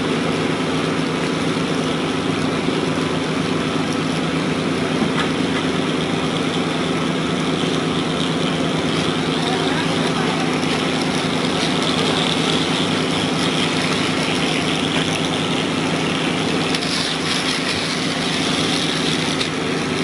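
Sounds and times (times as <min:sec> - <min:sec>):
heavy machine engine running: 0:00.0 - 0:20.0.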